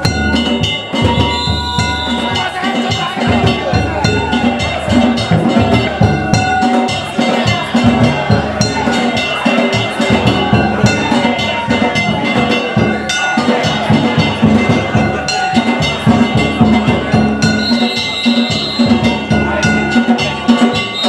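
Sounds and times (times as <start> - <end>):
large taiko drum beating: 0.0 - 21.0
metal gongs clanging: 0.0 - 21.0.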